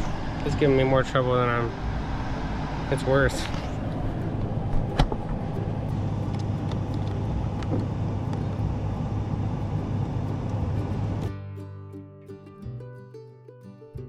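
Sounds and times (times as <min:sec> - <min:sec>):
low rumble and hiss: 0:00.0 - 0:11.3.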